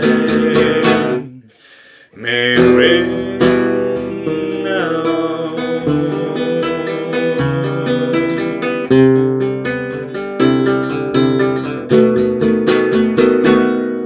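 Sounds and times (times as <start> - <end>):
acoustic guitar strumming: 0.0 - 1.4, 2.3 - 14.0.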